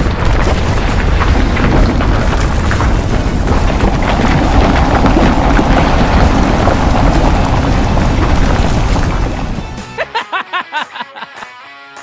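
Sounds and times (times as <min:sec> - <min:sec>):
low rumble: 0:00.0 - 0:09.8
fire crackling: 0:00.0 - 0:10.2.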